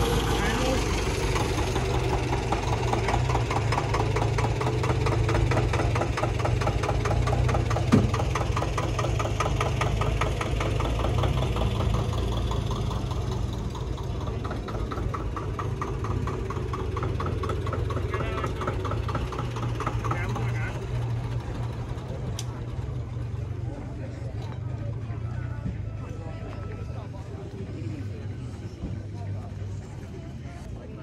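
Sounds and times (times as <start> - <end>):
engine running with knocking beat: 0.0 - 31.0.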